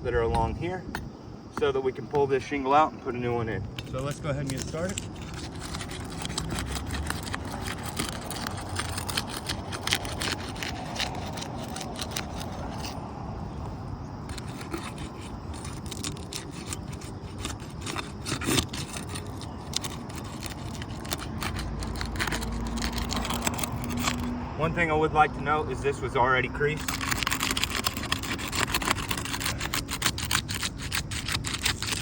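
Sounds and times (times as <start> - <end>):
shingles scraping and rubbing: 3.8 - 24.3, 26.6 - 32.0.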